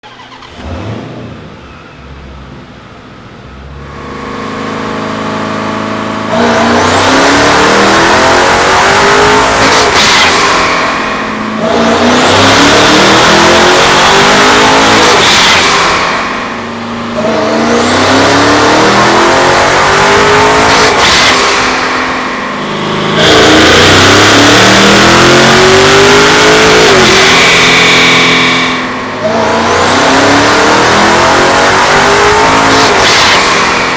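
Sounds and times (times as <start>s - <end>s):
car engine revving on a dyno: 0.0s - 33.9s
high whine: 3.5s - 33.9s.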